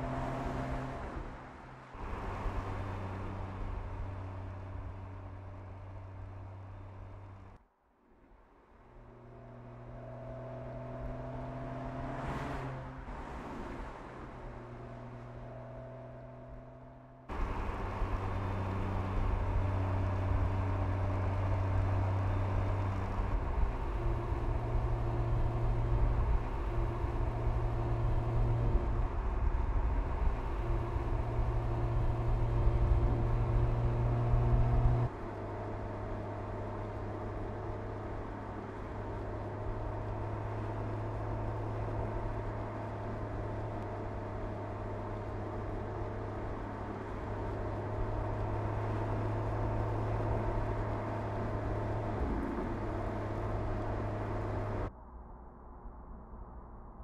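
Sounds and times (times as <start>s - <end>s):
tyre and road noise: 0.0s - 7.6s, 8.2s - 57.0s
car engine drone: 0.0s - 57.0s.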